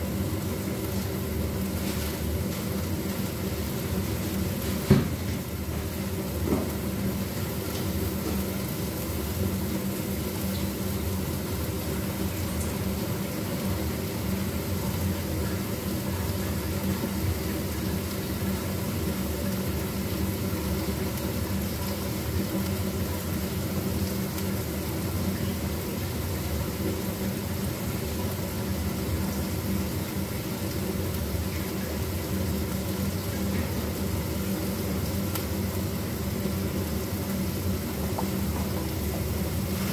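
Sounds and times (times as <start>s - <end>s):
meat sizzling in a pan: 0.0s - 39.9s.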